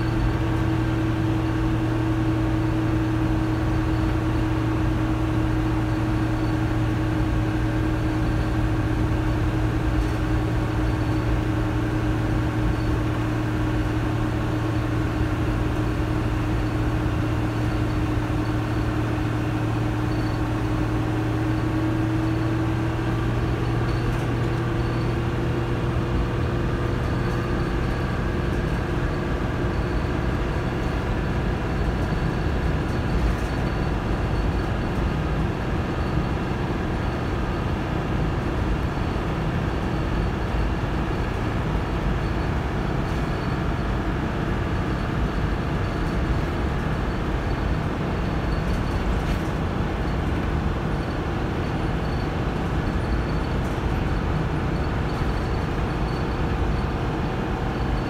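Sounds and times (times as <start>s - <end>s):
bus cabin rumble: 0.0s - 58.0s.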